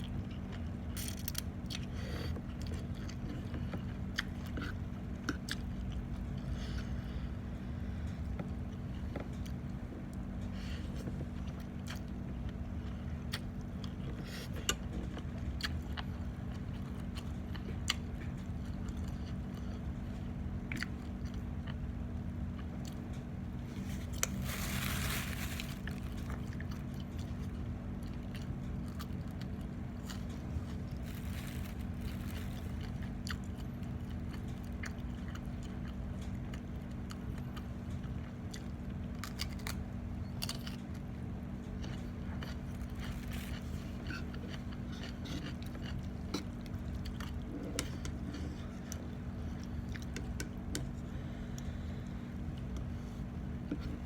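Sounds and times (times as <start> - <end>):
steady low hum: 0.0 - 54.0
person chewing food: 1.6 - 7.2, 11.0 - 53.0.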